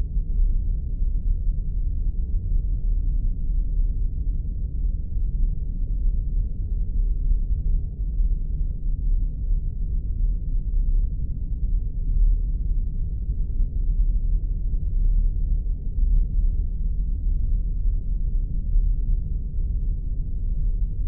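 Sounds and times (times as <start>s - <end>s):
deep rumbling drone: 0.0s - 21.0s.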